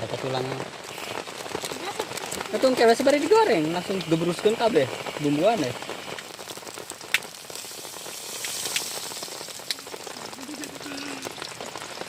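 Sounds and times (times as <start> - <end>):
food sizzling in hot oil: 0.0 - 12.0
rain pattering: 0.0 - 12.0.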